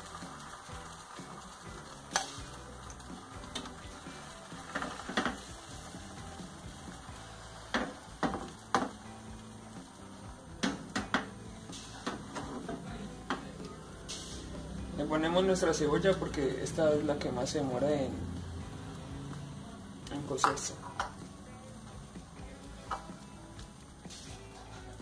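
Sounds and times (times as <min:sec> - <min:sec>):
eggs sizzling in a frying pan: 0:00.0 - 0:25.0.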